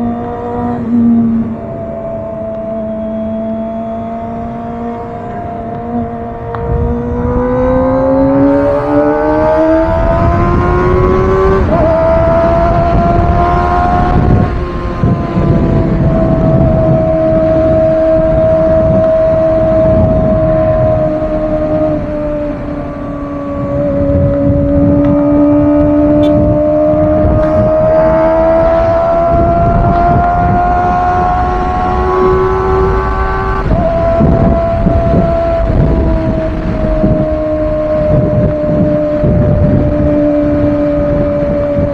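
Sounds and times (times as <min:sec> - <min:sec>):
low rumble of wind: 0:00.0 - 0:41.9
motorcycle engine accelerating: 0:00.0 - 0:41.9.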